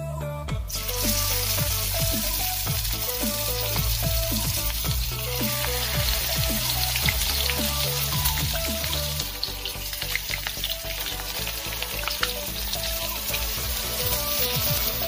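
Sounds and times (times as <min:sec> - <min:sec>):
food sizzling while frying: 0:00.7 - 0:15.0.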